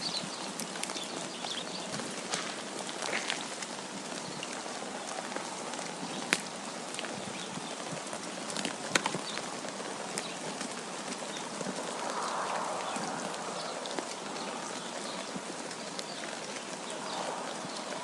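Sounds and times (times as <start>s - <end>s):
steady wind hiss: 0.0s - 18.0s.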